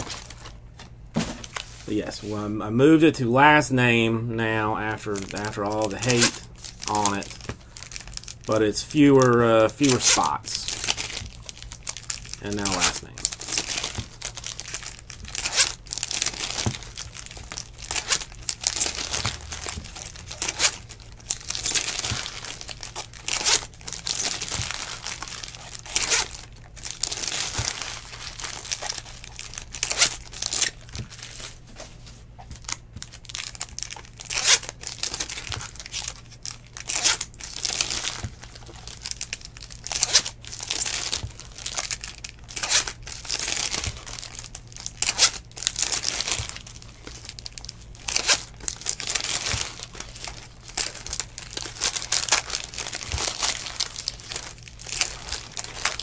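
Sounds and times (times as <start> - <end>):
foil wrappers crinkling and tearing: 0.0 - 0.6, 1.2 - 3.0, 4.5 - 56.0.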